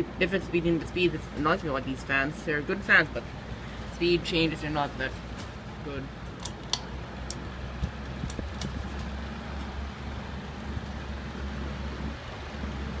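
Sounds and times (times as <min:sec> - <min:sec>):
exhaust fans humming: 0:00.0 - 0:13.0.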